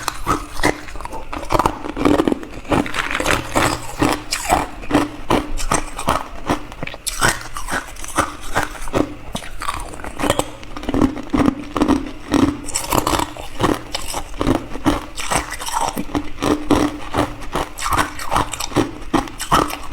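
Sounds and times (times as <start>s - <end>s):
ice being chewed: 0.0s - 19.9s.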